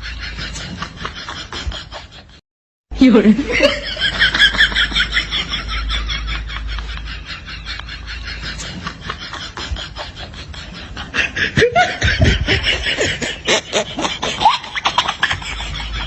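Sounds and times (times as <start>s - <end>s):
people laughing: 0.0s - 2.4s, 3.0s - 16.0s.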